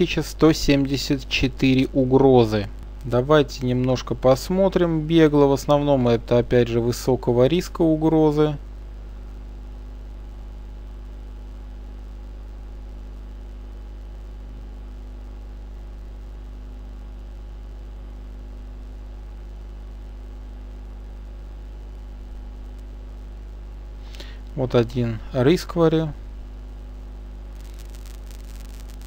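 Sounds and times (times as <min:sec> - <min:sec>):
mains hum: 0:00.0 - 0:29.0.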